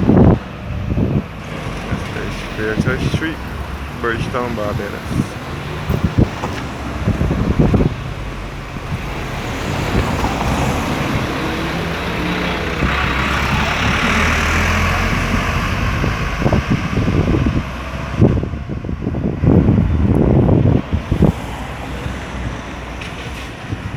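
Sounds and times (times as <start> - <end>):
vehicle engine running: 0.0 - 23.9.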